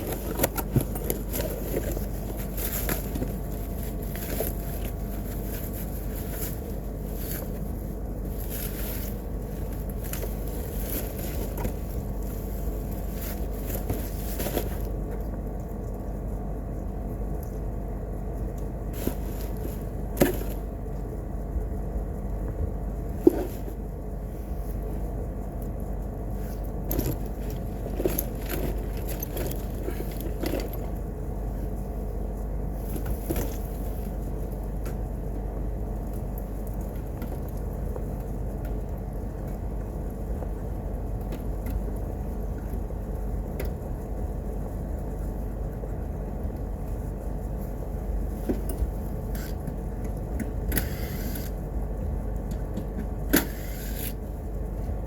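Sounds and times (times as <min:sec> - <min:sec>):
low machine hum with tones: 0:00.0 - 0:55.0.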